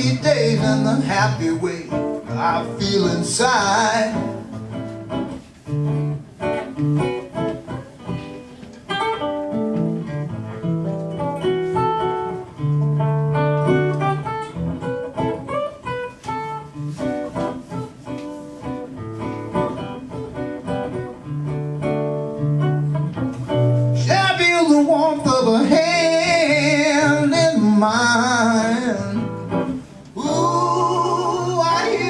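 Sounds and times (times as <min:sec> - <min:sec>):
picked guitar melody: 0:00.0 - 0:32.0.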